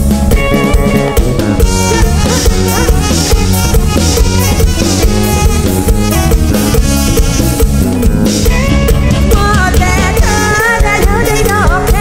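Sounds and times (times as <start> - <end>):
drum kit beat: 0.0 - 12.0
live band playing: 0.0 - 12.0.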